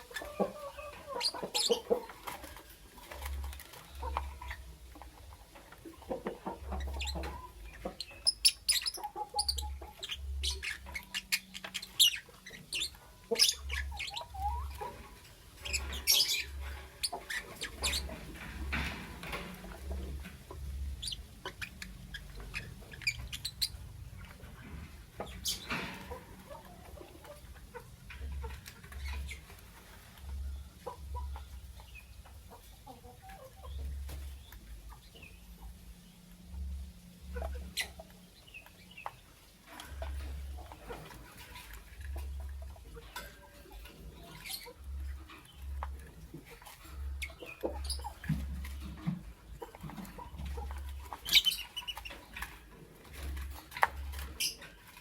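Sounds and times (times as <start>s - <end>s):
birds chirping and squeaking: 0.0s - 55.0s.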